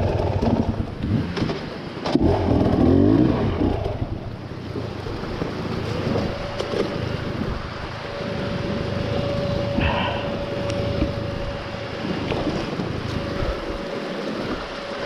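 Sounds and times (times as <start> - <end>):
motorcycle engine running: 0.0 - 14.2
wind buffeting microphone: 0.0 - 15.0.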